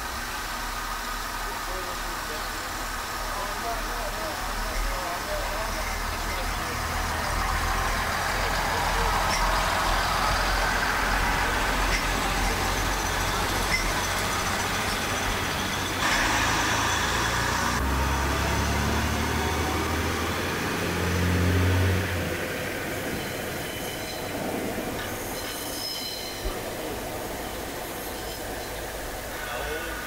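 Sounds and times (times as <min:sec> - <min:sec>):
diesel train engine running: 0:00.0 - 0:30.0.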